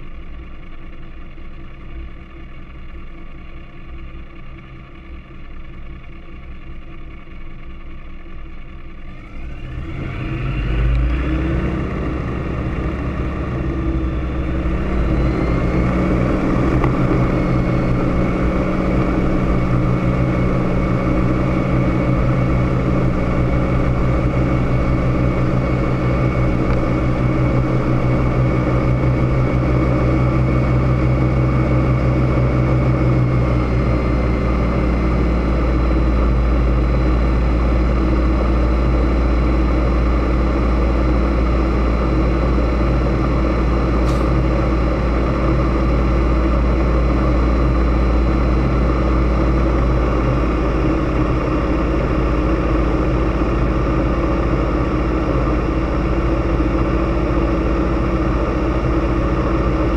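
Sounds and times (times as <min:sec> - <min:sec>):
aircraft engine and propeller: 0:00.0 - 0:59.9.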